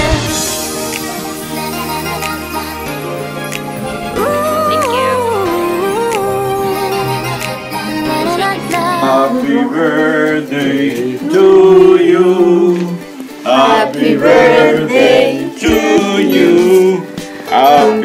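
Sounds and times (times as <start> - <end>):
pop song with singer: 0.0 - 18.0.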